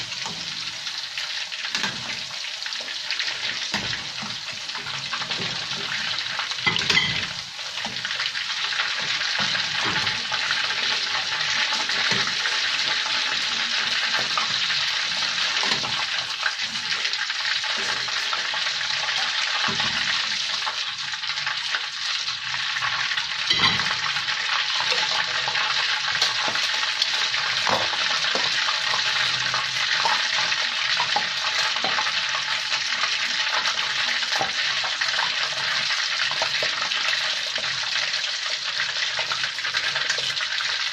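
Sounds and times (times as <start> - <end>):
chicken sizzling in a pan: 0.0 - 40.9.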